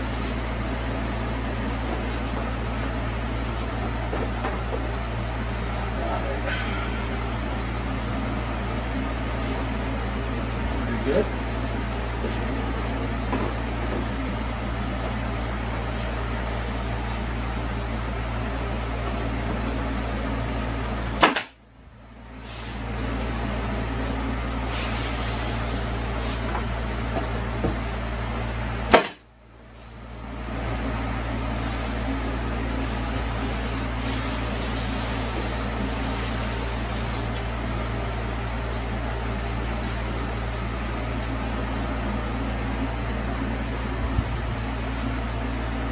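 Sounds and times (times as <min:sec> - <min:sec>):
low mechanical hum of machine: 0:00.0 - 0:45.9.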